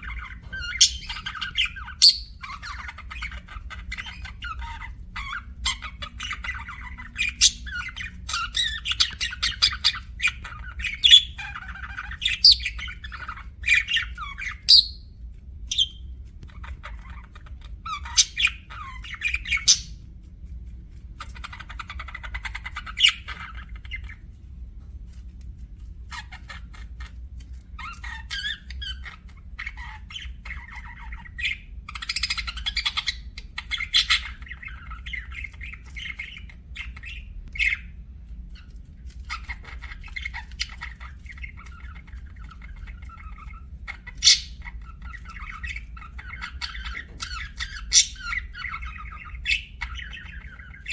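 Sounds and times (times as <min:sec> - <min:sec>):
budgerigars chirping: 0:00.0 - 0:20.0, 0:21.2 - 0:24.3, 0:26.1 - 0:50.9
steady low hum: 0:00.0 - 0:50.9.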